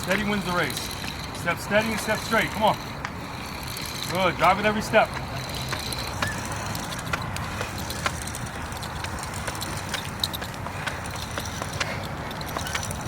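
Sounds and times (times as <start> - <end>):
footsteps: 0.0 - 13.0.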